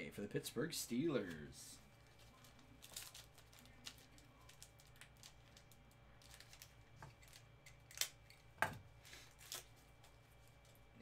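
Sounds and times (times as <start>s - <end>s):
card packs clicking and crinkling: 1.1s - 10.9s.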